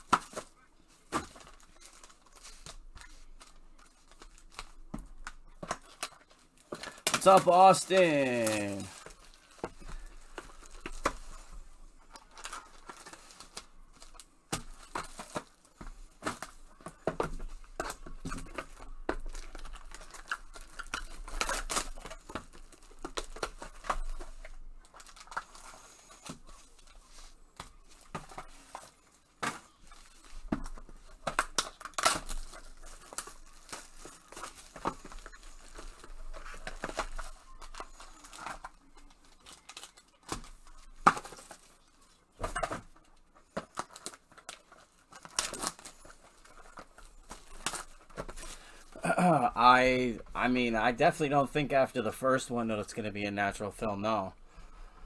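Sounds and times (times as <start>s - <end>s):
packs rustling and clicking: 0.0s - 49.0s
foil wrappers tearing and crinkling: 1.2s - 49.0s.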